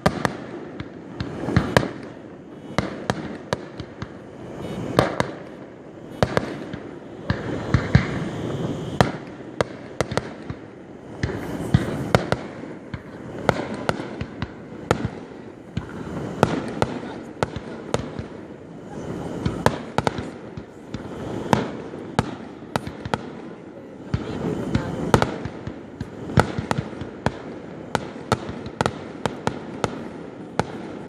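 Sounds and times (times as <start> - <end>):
fireworks bursting with sharp bangs: 0.0 - 31.0
low rumble of explosions: 0.0 - 31.0.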